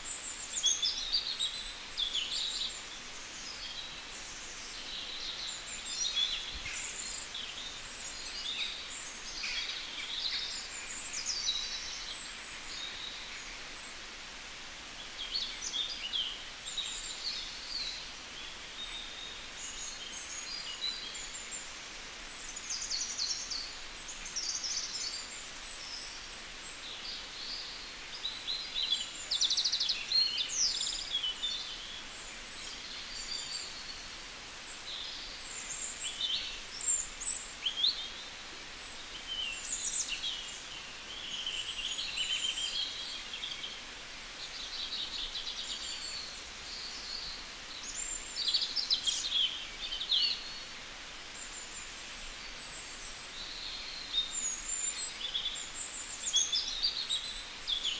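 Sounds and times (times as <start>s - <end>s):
songbirds singing: 0.0s - 57.9s
steady background hiss: 0.0s - 57.9s.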